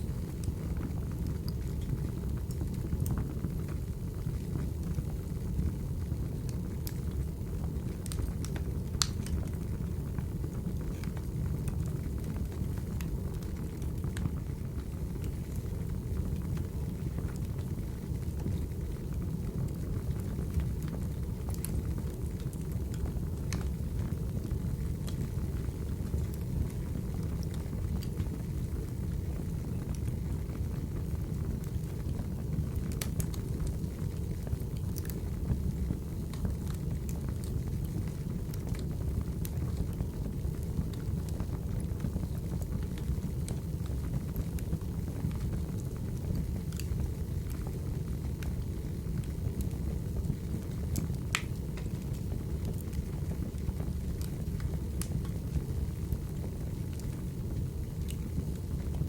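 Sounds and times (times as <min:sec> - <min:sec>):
burning logs crackling and popping: 0:00.0 - 0:59.0
low rumble of flames: 0:00.0 - 0:59.0.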